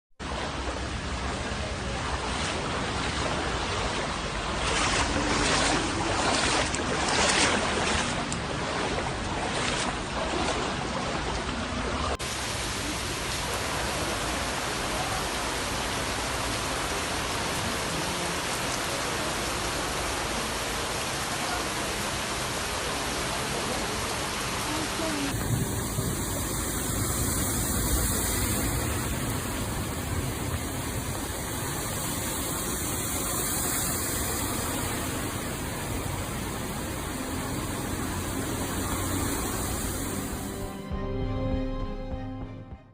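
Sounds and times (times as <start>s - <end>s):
rushing flowing water: 0.2s - 41.2s.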